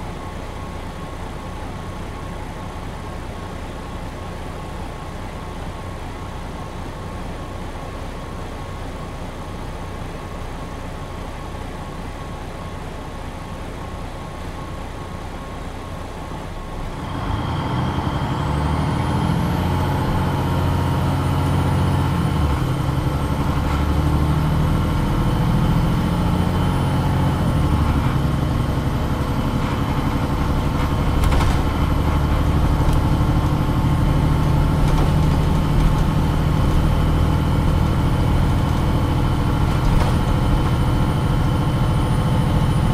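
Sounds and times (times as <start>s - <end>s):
bus diesel engine: 0.0s - 42.9s.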